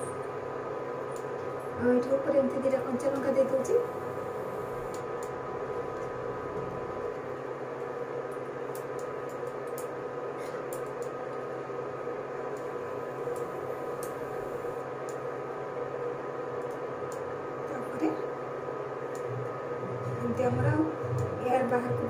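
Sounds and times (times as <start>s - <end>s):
induction cooktop hum and whine: 0.0s - 22.0s.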